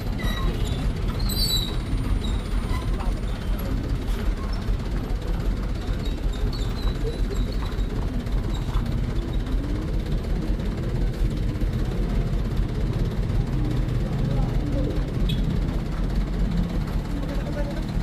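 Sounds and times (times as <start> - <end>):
diesel truck engine running: 0.0 - 18.0
tyres on gravel road: 0.0 - 18.0.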